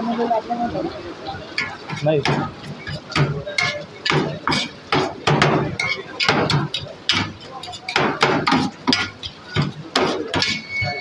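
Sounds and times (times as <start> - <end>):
metal utensils clacking on tray: 1.5 - 11.0.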